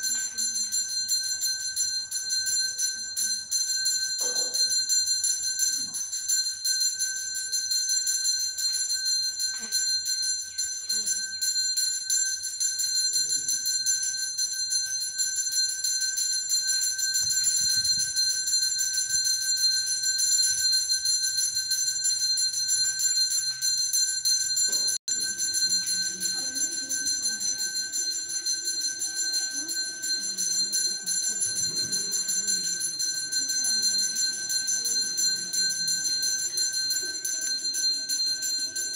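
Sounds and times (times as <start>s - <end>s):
metallic bell jangling: 0.0s - 38.9s.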